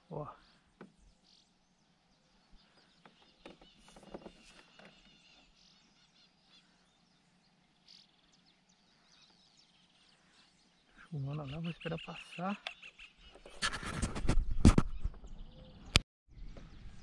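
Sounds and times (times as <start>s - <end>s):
bird chirps: 0.0s - 13.6s, 14.8s - 17.0s.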